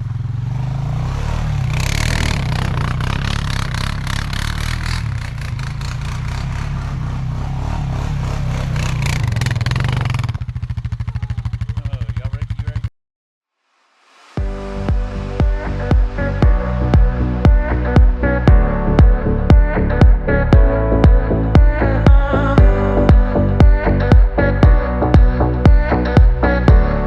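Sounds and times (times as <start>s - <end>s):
atv engine running: 0.0s - 12.9s, 14.9s - 27.0s.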